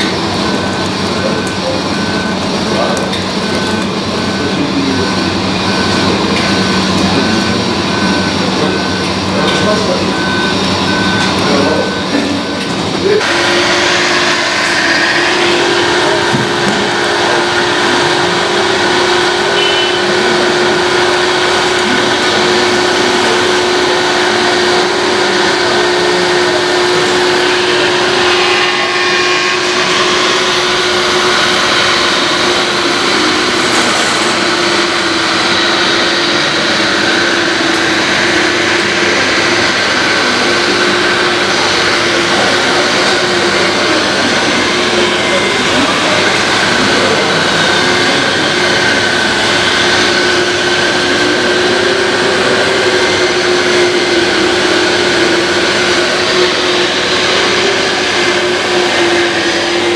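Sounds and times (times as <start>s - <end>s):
model truck motor whine: 0.0s - 59.9s
reversing beeper: 0.0s - 59.9s.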